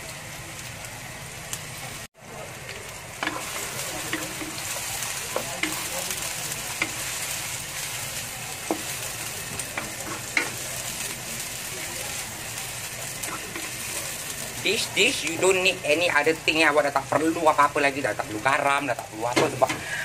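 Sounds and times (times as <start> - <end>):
vegetables sizzling in oil: 0.0 - 20.0
utensil knocking and scraping wok: 3.2 - 20.0.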